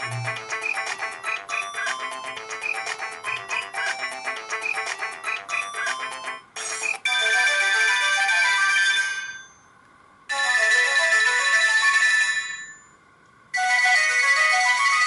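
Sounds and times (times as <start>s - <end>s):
phone ringtone melody: 0.0s - 9.6s, 10.3s - 12.9s, 13.6s - 15.0s.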